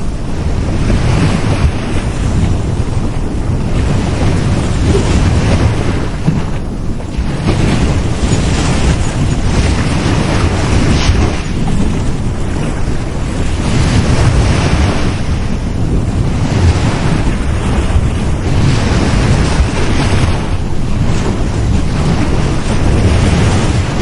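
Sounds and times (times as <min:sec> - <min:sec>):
waves breaking on beach: 0:00.0 - 0:24.0
wind rumbling on microphone: 0:00.0 - 0:24.0.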